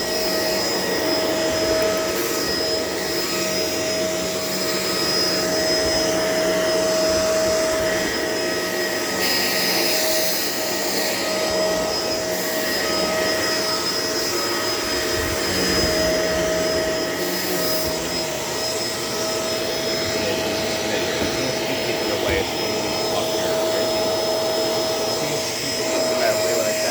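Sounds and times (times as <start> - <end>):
vacuum cleaner motor whine: 0.0 - 26.9.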